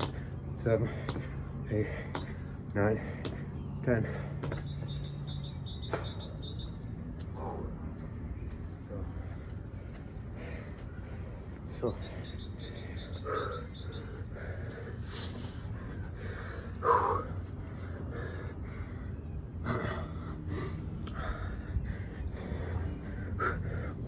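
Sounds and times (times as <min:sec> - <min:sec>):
man breathing hard: 0:00.0 - 0:05.3, 0:09.0 - 0:24.0.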